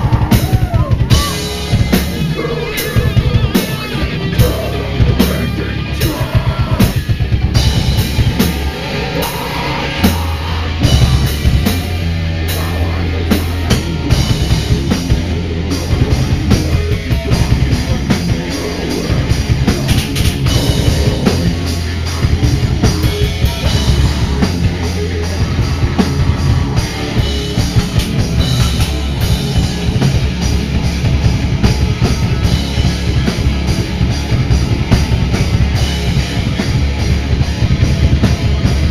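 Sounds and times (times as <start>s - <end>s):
metal band playing live: 0.0s - 38.9s.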